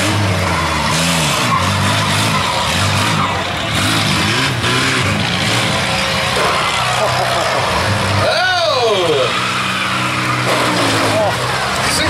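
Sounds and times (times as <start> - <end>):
engines revving up and down: 0.0 - 12.0
steady noisy rush: 2.0 - 12.0.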